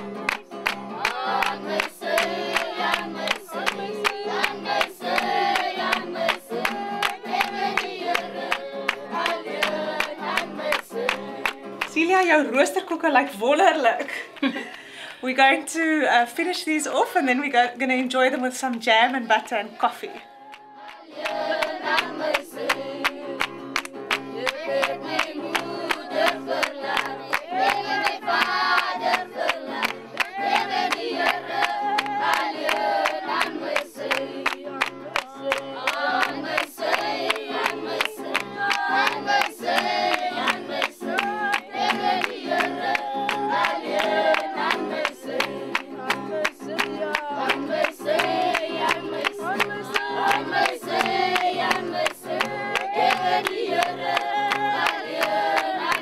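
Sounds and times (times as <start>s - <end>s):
group of voices singing: 0.0s - 12.1s, 19.6s - 56.0s
strummed acoustic guitar: 0.0s - 12.7s, 20.8s - 56.0s.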